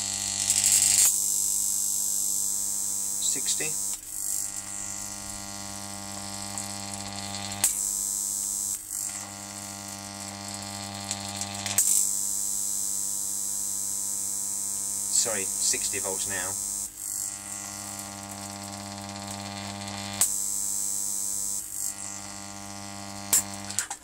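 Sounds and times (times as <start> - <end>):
electric arc buzzing and crackling: 0.0 - 24.0.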